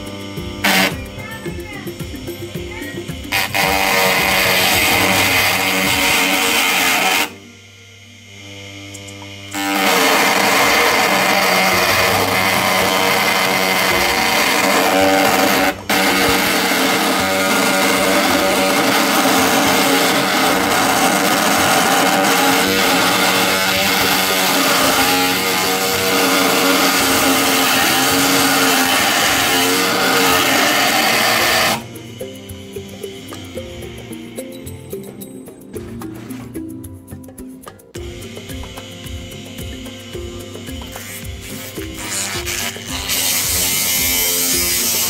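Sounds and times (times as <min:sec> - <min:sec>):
wood lathe running: 0:00.0 - 0:34.6, 0:38.0 - 0:45.0.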